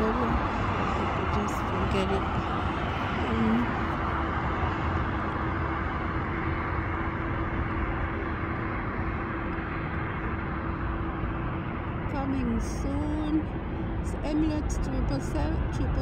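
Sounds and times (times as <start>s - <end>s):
cars driving on busy road: 0.0s - 16.0s
faint steady hum: 0.0s - 16.0s.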